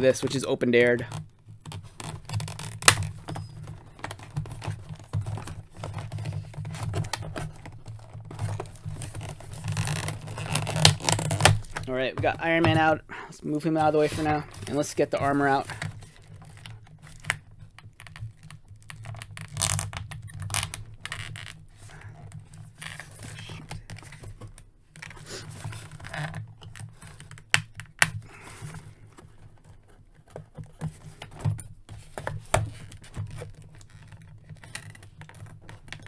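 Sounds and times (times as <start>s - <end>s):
packaging rustling: 1.0s - 36.0s.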